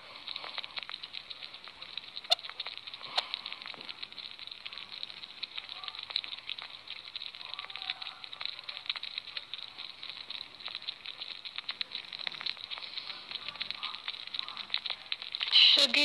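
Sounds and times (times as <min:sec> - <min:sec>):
soft hiss: 0:00.0 - 0:16.0
sugar gliders crackling chatter: 0:00.0 - 0:16.0.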